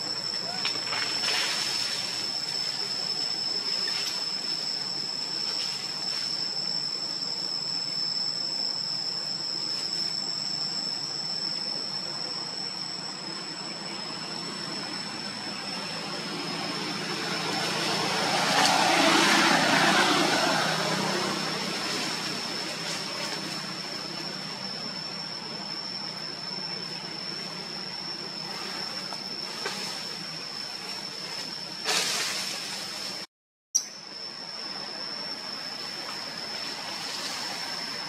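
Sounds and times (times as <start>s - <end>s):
steady high-pitched whine: 0.0s - 38.0s.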